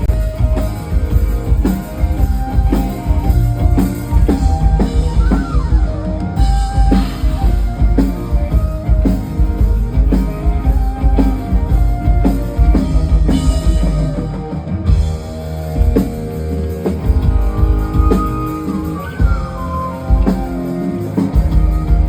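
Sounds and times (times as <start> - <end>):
drum kit beat: 0.0 - 22.0
gliding melodic lead line: 0.0 - 22.0
guitar: 0.0 - 22.0.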